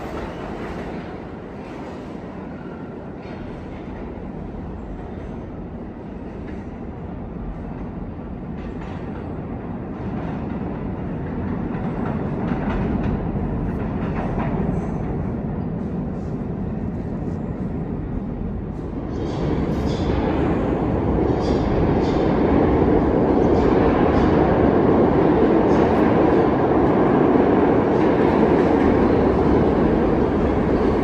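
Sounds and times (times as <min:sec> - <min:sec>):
subway train rumbling: 0:00.0 - 0:31.0.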